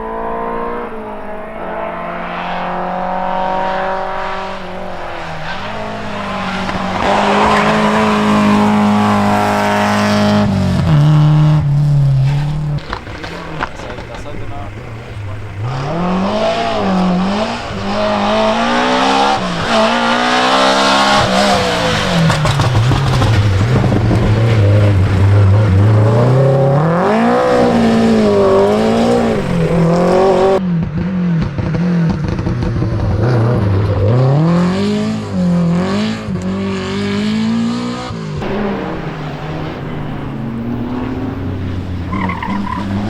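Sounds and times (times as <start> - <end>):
rally car engines revving: 0.0 - 43.0.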